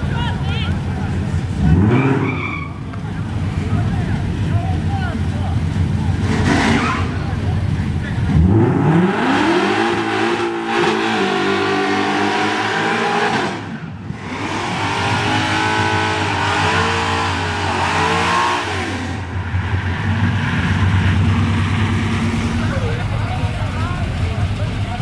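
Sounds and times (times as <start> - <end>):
engine revving: 1.5 - 2.4, 5.6 - 25.0.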